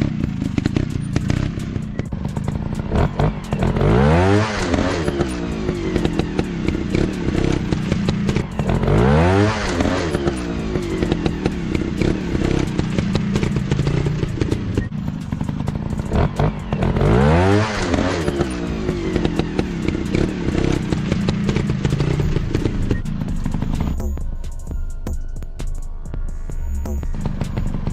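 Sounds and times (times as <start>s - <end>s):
dirt bike engine revving: 0.0s - 24.6s, 26.8s - 27.9s
mechanical clatter: 0.0s - 25.8s.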